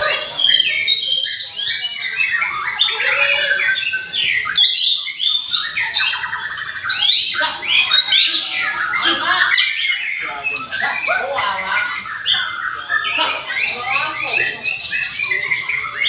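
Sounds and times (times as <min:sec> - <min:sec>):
birds singing loudly: 0:00.0 - 0:16.0.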